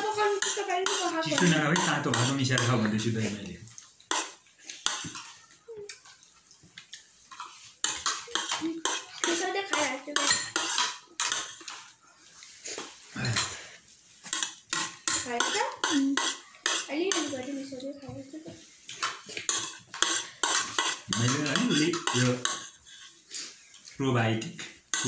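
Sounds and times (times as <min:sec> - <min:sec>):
spoon scraping a plate: 0:00.0 - 0:03.4, 0:07.0 - 0:17.6, 0:18.9 - 0:25.0.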